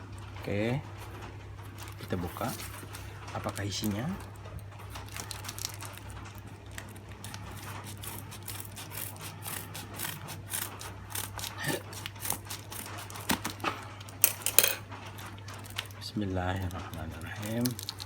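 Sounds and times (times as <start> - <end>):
packaging crinkling and tearing: 1.7 - 14.2, 15.1 - 18.0.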